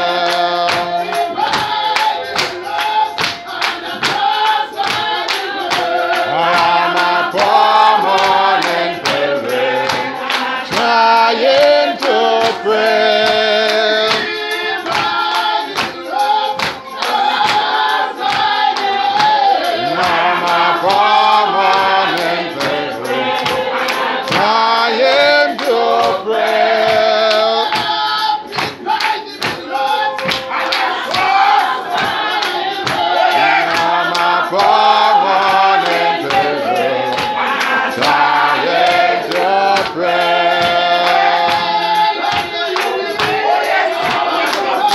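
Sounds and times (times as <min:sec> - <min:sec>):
choir and congregation singing hymn: 0:00.0 - 0:44.9
sharp percussive strikes: 0:00.0 - 0:44.9.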